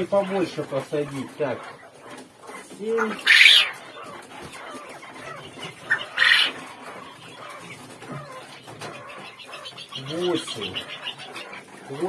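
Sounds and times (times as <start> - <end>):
young quail chirping: 0.0 - 12.0.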